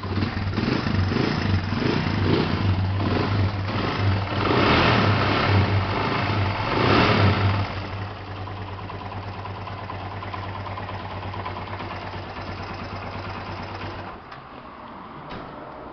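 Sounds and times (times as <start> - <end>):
motorcycle engine revving and idling: 0.0 - 14.3.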